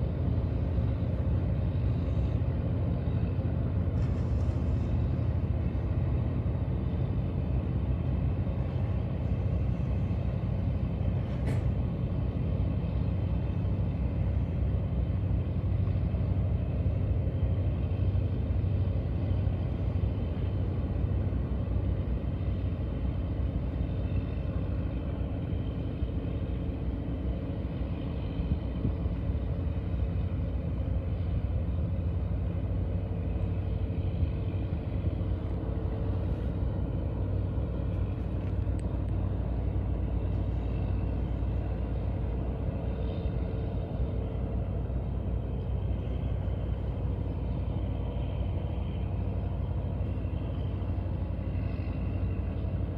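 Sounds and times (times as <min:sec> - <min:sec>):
engine rumble with hum: 0:00.0 - 0:52.9.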